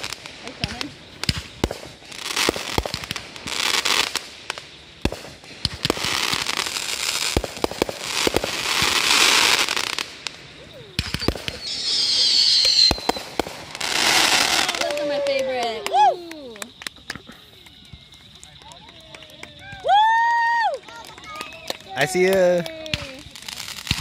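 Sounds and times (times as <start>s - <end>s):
fireworks bangs and pops: 0.0s - 24.0s
fireworks crackling: 0.0s - 24.0s.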